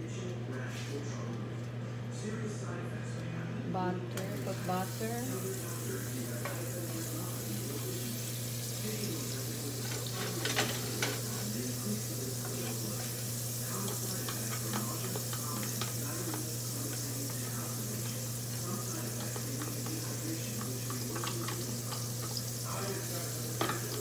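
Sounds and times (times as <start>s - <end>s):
garlic sizzling in a pan: 4.2s - 24.0s.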